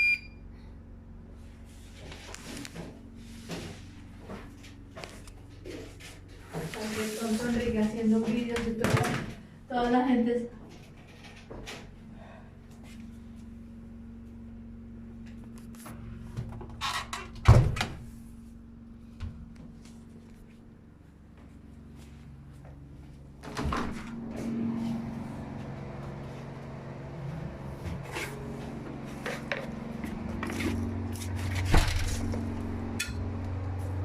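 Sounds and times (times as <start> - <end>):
generator humming: 0.0 - 7.0, 7.6 - 34.0.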